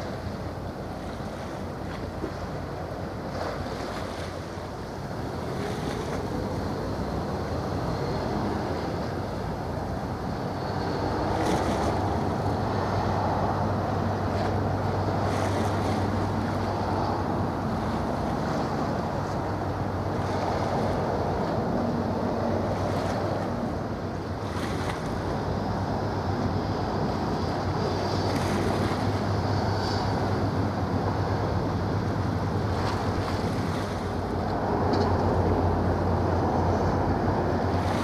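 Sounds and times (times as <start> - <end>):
ship engines droning: 0.0 - 38.0
water washing along hulls: 0.0 - 38.0.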